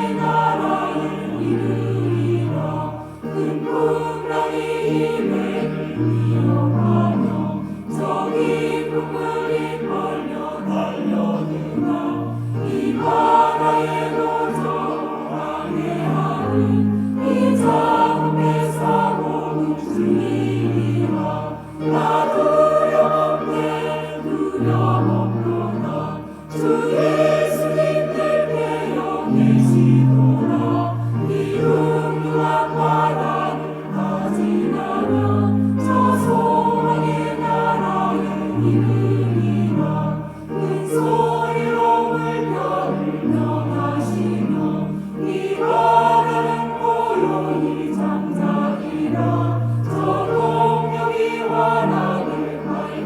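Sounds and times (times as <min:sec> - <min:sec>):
choir singing a hymn: 0:00.0 - 0:53.0.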